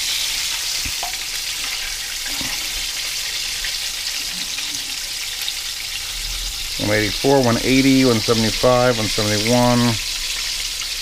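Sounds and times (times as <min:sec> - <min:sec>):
oil sizzling while deep-frying: 0:00.0 - 0:11.0.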